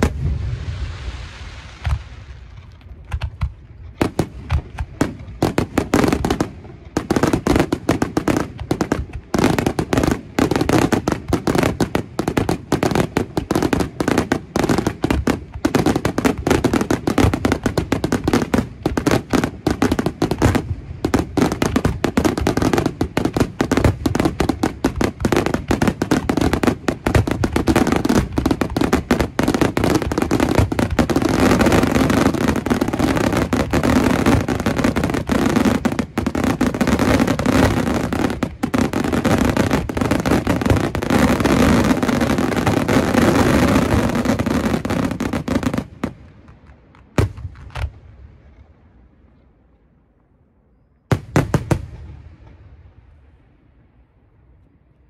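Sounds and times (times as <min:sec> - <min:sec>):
fireworks bursting and crackling: 0:00.0 - 0:49.0, 0:51.1 - 0:53.5.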